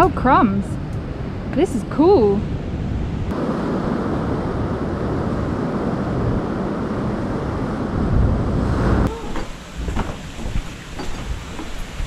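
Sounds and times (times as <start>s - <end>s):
ocean surf rushing: 0.0s - 12.0s
wind on microphone: 0.0s - 12.0s.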